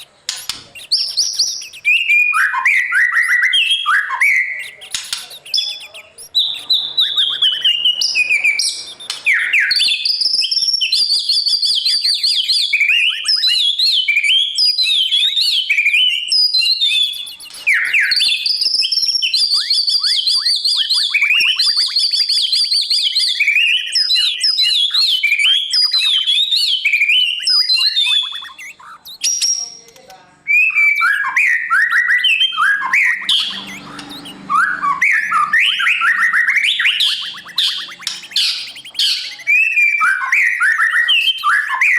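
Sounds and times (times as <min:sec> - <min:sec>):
bird singing whistles and trills: 0:00.0 - 0:41.9.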